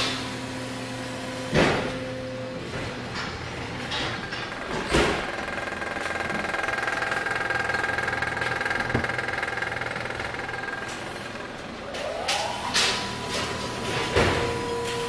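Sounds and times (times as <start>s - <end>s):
machine hum with high whine: 0.0s - 15.0s.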